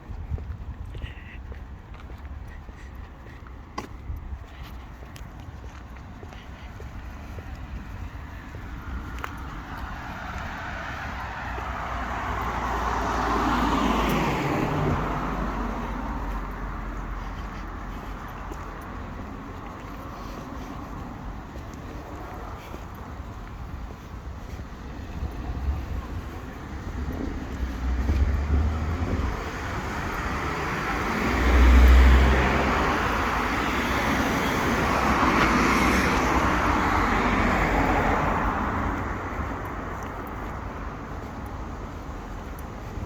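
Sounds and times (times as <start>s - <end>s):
vehicle passing: 6.3s - 43.0s.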